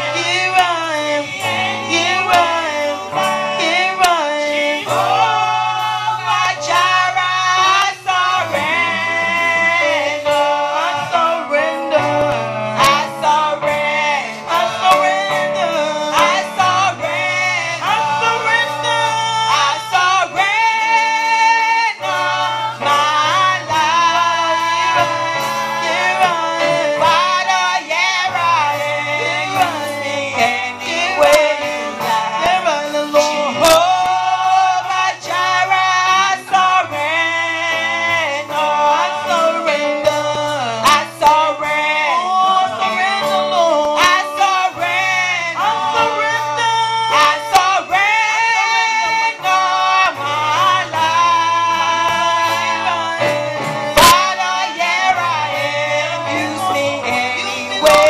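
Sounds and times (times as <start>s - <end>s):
instrumental accompaniment: 0.0s - 58.0s
women and men singing: 0.0s - 58.0s.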